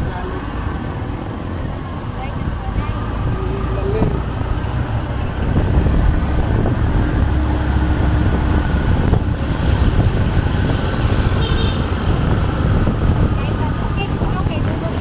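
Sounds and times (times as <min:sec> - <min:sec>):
road traffic: 0:00.0 - 0:15.0
vehicle low rumble: 0:00.0 - 0:15.0.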